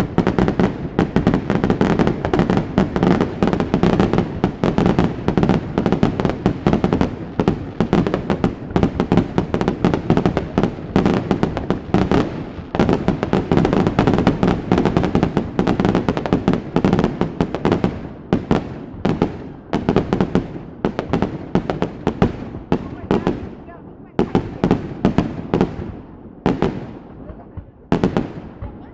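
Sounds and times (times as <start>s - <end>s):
fireworks bangs and crackles: 0.0s - 28.9s.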